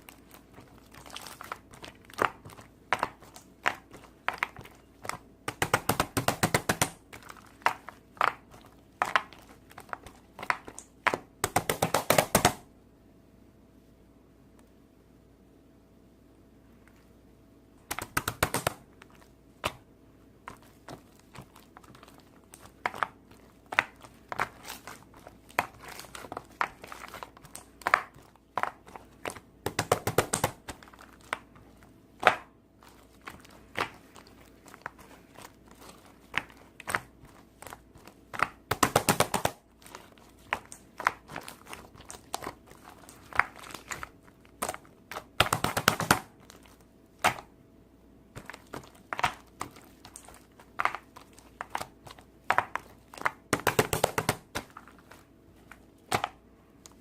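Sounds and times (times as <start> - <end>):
hands squishing slime: 0.0 - 12.7, 17.8 - 47.6, 48.3 - 57.0
slime crackling and crinkling: 0.0 - 12.7, 17.8 - 47.6, 48.3 - 57.0.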